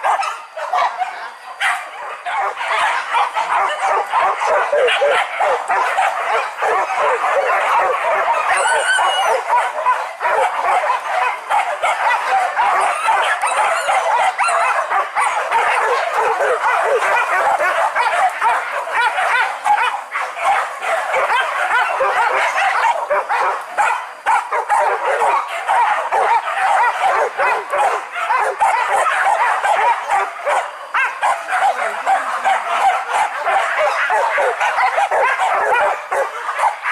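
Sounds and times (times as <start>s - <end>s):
dogs barking and yelping: 0.0s - 36.9s
dogs whimpering: 0.0s - 36.9s.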